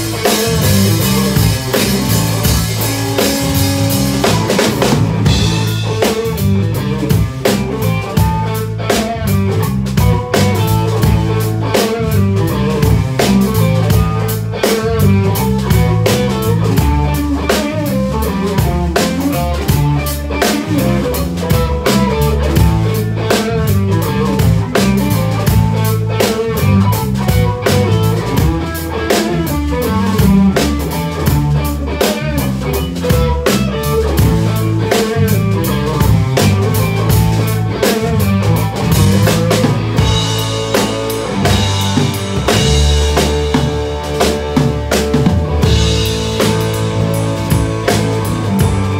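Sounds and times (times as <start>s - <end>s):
drum strokes with rimshots: 0.0s - 48.9s
live band playing: 0.0s - 48.9s.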